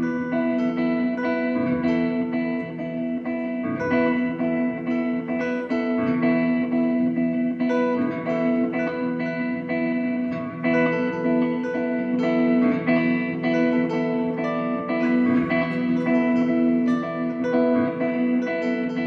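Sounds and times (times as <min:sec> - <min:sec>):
electric guitars ringing notes: 0:00.0 - 0:19.0.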